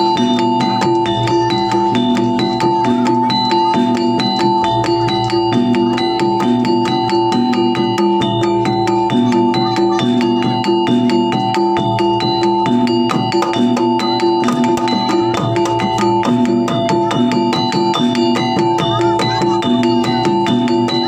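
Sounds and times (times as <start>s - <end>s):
fast drum pattern: 0.0s - 21.0s
struck mallet melody: 0.0s - 21.0s.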